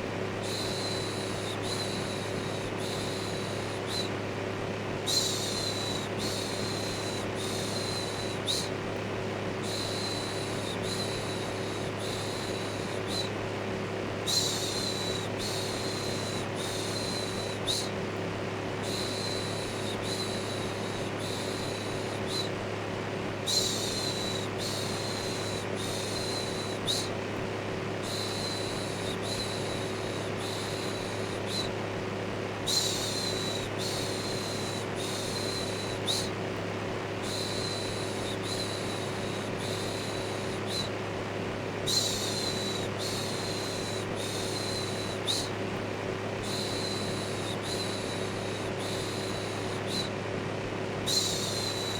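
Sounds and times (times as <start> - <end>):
electric fan humming: 0.0 - 51.9.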